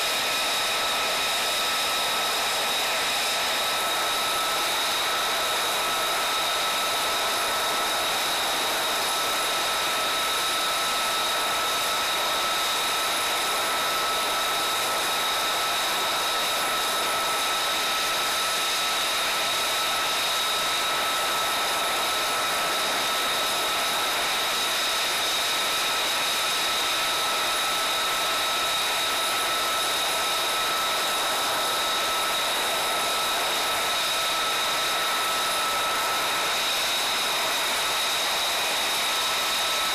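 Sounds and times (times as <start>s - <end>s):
jet engine idling whine: 0.0s - 39.9s.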